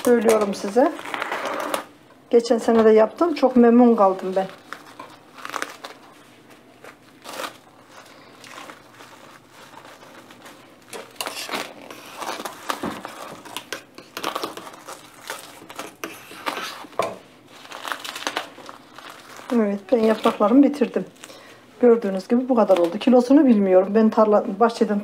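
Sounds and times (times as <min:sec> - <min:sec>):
plastic cling film crinkling: 0:00.0 - 0:01.9, 0:03.1 - 0:23.6.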